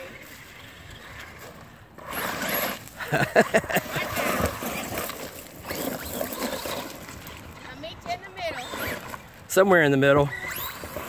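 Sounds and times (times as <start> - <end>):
tyres churning mud: 0.0 - 11.0.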